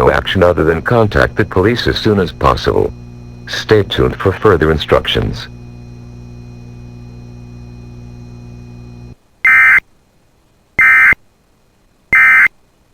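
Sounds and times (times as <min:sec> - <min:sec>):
low hum of dead air: 0:00.0 - 0:10.7.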